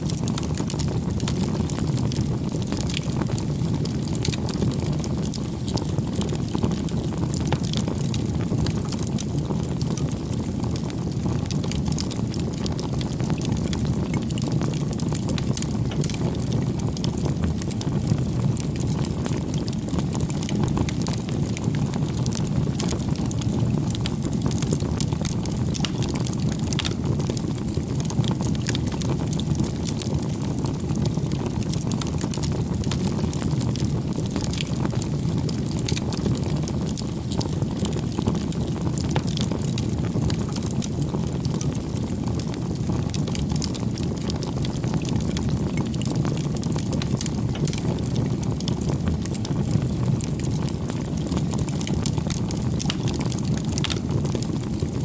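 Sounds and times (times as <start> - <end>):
burning wood crackling and popping: 0.0 - 55.0
campfire flames rumbling: 0.0 - 55.0.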